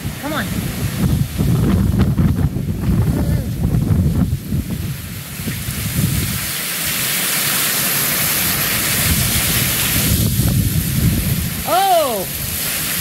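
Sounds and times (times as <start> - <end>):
wind buffeting microphone: 0.0 - 7.0, 8.2 - 13.0
heavy rain pouring: 0.0 - 13.0.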